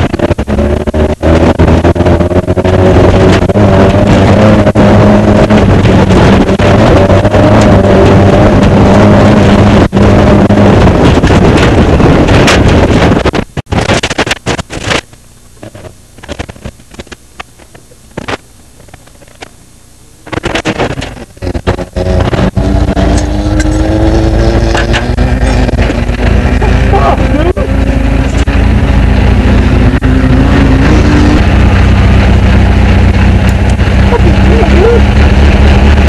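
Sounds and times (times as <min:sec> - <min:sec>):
race car engine revving: 0:00.0 - 0:15.0, 0:20.2 - 0:36.0
wind rushing: 0:00.0 - 0:15.0, 0:20.3 - 0:36.0.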